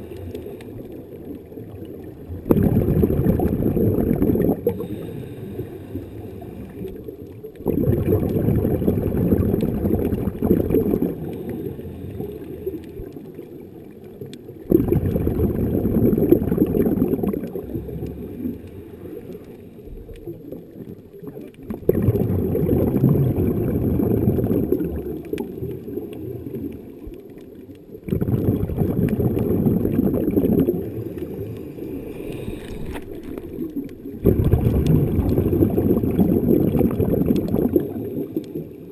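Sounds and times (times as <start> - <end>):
underwater bubbling exhalations: 0.0 - 38.9.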